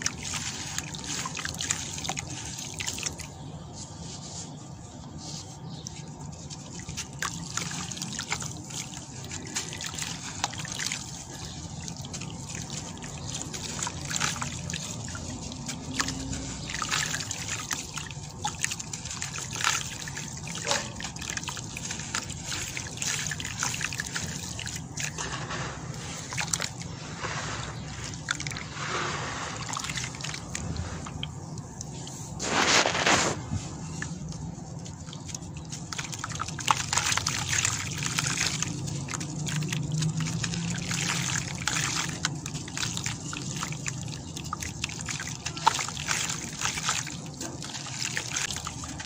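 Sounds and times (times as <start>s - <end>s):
hand stirring wet slurry: 0.0s - 49.0s
crumbling grit crackling into water: 5.2s - 49.0s.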